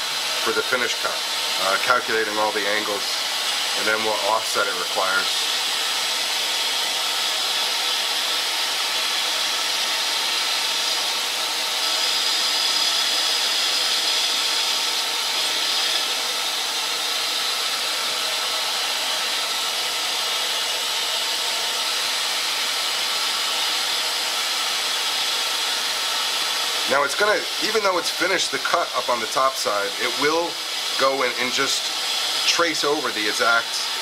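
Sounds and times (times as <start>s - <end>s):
metal lathe humming: 0.0s - 34.0s.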